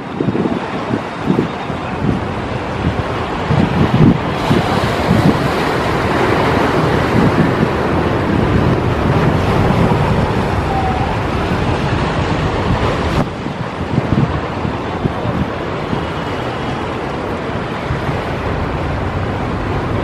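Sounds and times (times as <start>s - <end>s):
ocean surf washing on shore: 0.0s - 20.0s
wind buffeting microphone: 0.0s - 20.0s.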